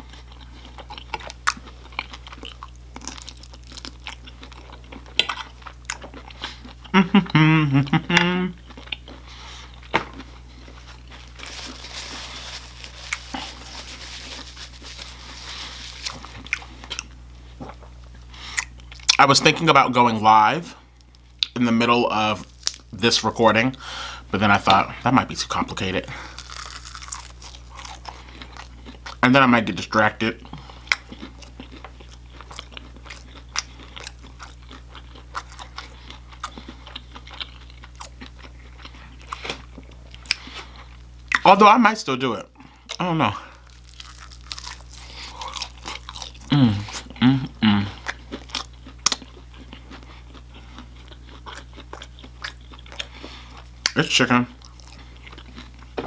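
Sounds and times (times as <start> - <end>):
chewing with crisp crunching: 0.0 - 23.8, 24.4 - 41.5, 42.5 - 56.0
low steady hum: 0.0 - 56.0.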